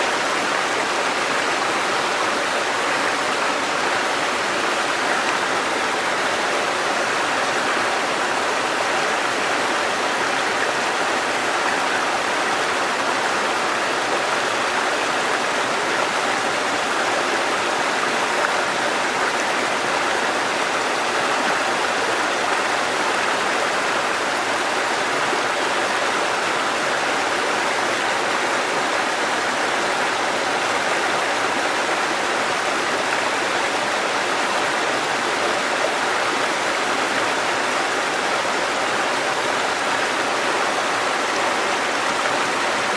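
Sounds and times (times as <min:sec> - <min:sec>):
water rushing: 0:00.0 - 0:42.9.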